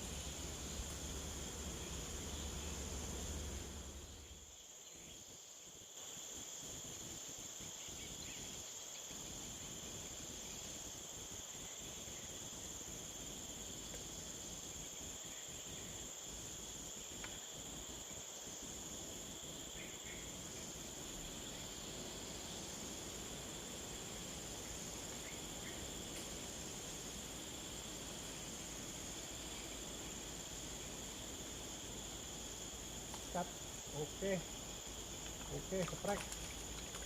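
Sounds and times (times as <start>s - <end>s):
faint outdoor hiss: 0.0s - 37.0s
insects chirring: 0.0s - 37.0s.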